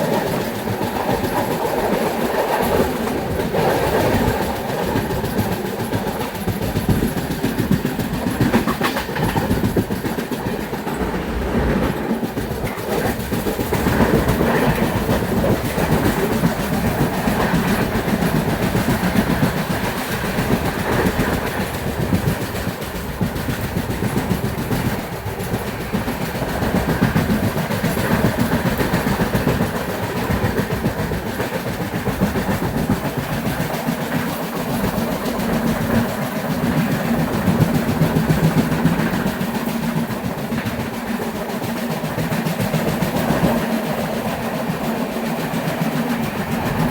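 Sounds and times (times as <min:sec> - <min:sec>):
train wheels on rails: 0:00.0 - 0:46.9.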